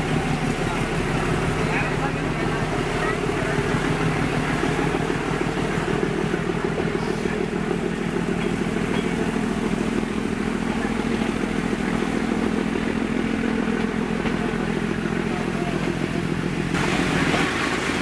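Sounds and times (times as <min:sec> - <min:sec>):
diesel locomotive engine throbbing: 0:00.0 - 0:18.0.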